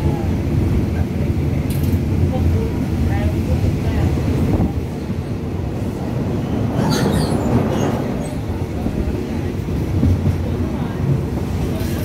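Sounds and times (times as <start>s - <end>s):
railcar rumble: 0.0s - 12.0s.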